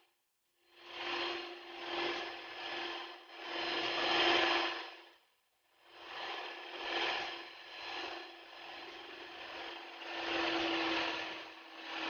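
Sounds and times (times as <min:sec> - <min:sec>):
electric hand mixer motor hum: 0:00.9 - 0:05.0, 0:06.0 - 0:12.0.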